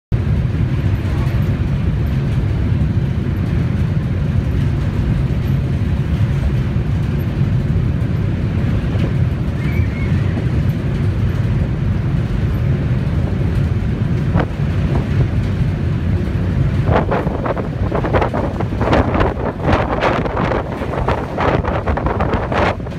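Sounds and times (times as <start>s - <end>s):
wind buffeting microphone: 0.2s - 22.9s.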